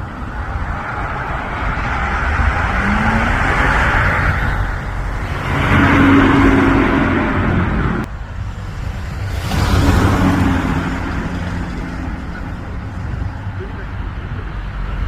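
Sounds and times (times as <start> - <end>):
motor vehicles passing: 0.0 - 15.0.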